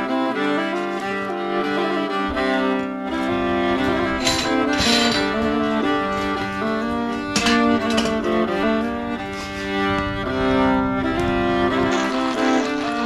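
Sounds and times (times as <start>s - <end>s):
bowed strings playing chords: 0.0s - 13.0s.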